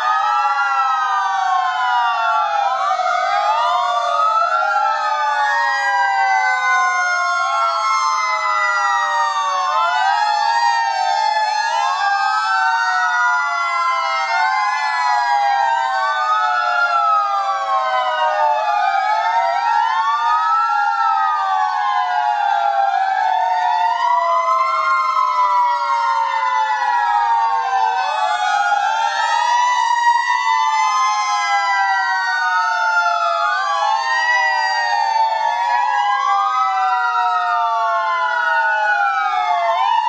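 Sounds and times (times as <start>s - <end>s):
fire engine sirens wailing: 0.0s - 40.0s.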